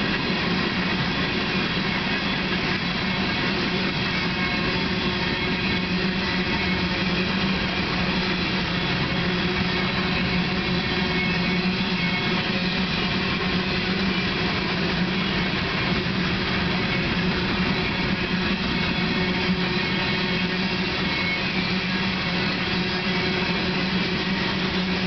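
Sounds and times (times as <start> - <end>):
constant low hum: 0.0 - 25.0.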